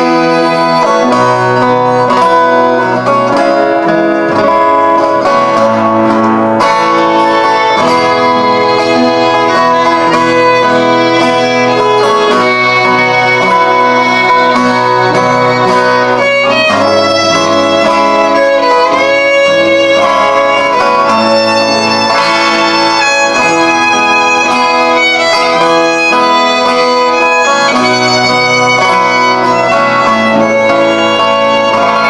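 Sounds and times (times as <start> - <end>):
acoustic guitar: 0.0 - 32.0.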